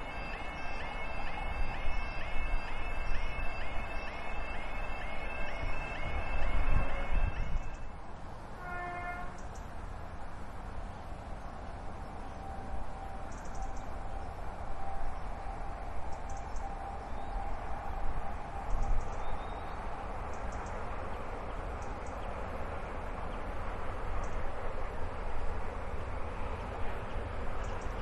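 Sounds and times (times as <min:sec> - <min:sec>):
faint steady whine: 0:00.0 - 0:08.7, 0:09.3 - 0:28.0
distant train passing: 0:00.0 - 0:28.0.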